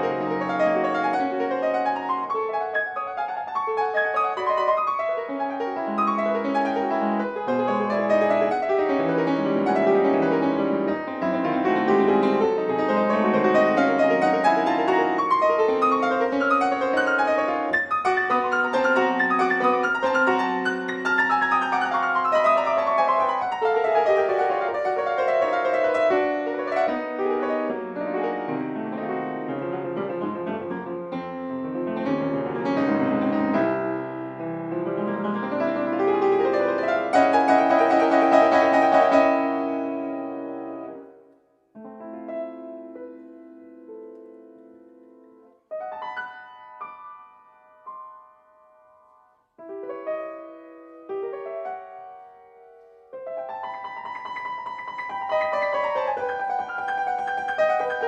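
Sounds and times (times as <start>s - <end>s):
solo piano classical piece: 0.0s - 58.0s.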